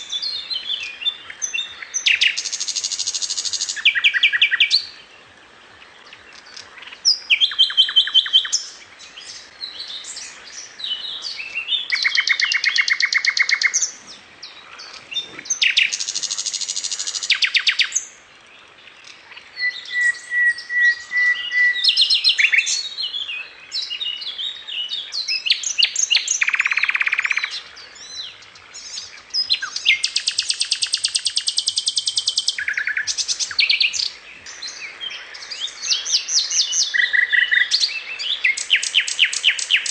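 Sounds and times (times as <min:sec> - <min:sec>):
birds chirping and singing: 0:05.8 - 0:39.9.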